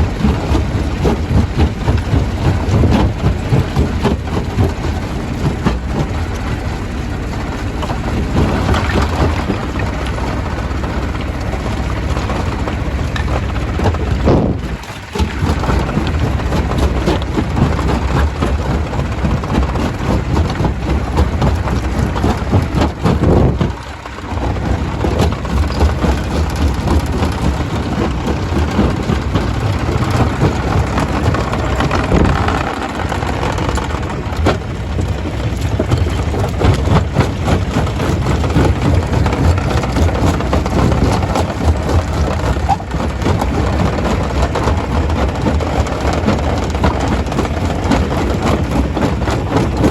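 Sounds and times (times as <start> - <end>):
stone crusher crushing rock: 8.2 - 49.9.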